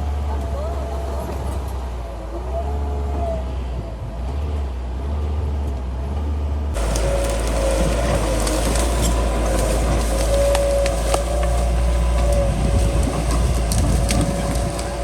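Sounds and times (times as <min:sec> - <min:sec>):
bulldozer diesel engine rumble: 0:00.0 - 0:15.0.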